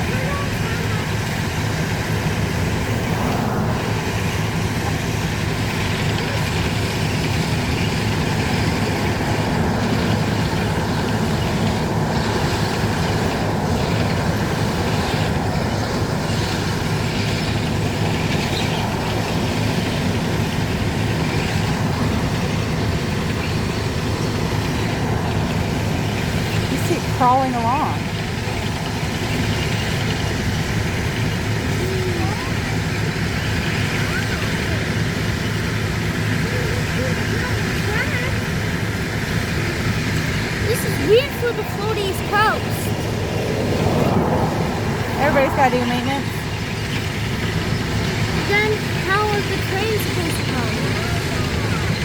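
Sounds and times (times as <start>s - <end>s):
heavy engine droning: 0.0s - 52.0s
machine and rolling noise: 0.0s - 52.0s.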